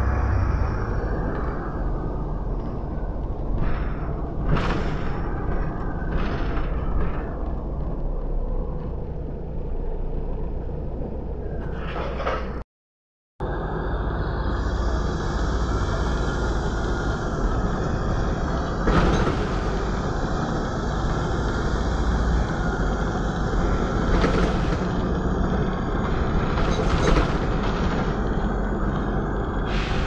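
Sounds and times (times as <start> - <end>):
bus engine and road rumble: 0.0 - 12.7, 13.4 - 30.0.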